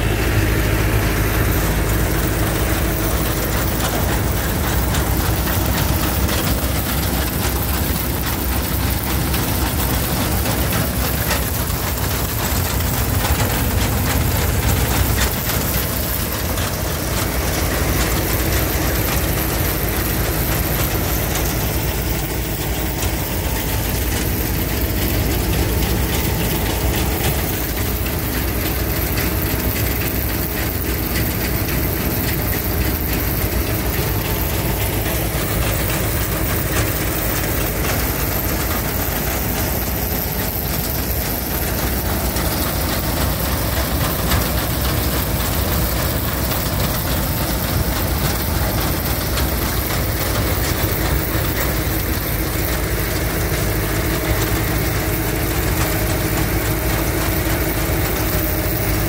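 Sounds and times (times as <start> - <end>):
engine running with low rumble: 0.0 - 59.0.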